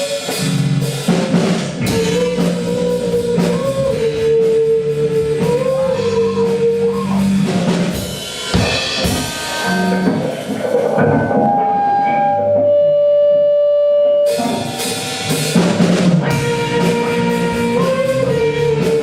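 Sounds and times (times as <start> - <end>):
drum strokes and cymbals: 0.0 - 12.7, 14.3 - 19.0
band playing: 0.0 - 19.0.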